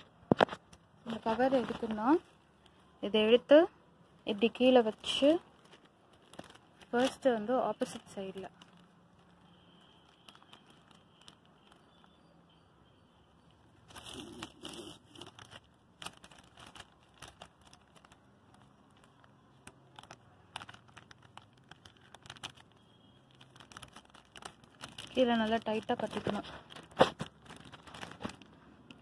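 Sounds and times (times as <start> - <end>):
plastic bag crinkling: 0.0 - 3.6, 4.2 - 12.3, 13.4 - 29.0.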